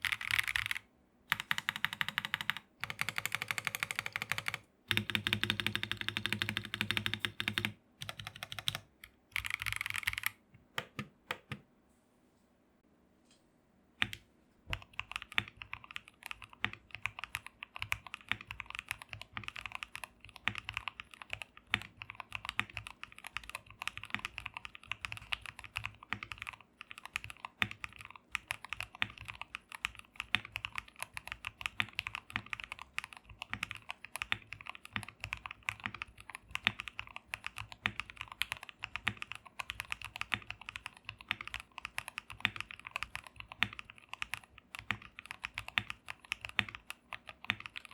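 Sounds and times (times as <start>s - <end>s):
mechanical keyboard typing: 0.0s - 11.6s, 14.0s - 47.9s.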